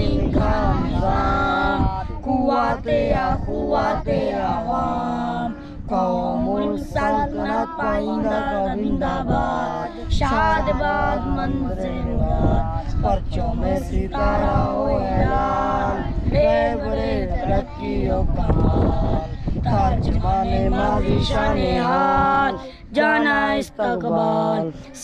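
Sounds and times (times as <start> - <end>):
unaccompanied voices singing: 0.0 - 25.0.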